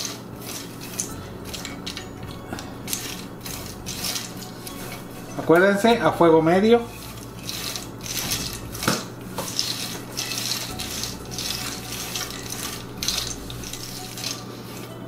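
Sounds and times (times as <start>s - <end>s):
seeds scraping across a pan: 0.0s - 2.1s, 2.8s - 15.0s.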